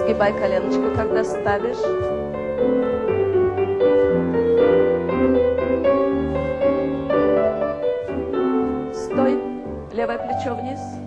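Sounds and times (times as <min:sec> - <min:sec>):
solo piano: 0:00.0 - 0:11.0.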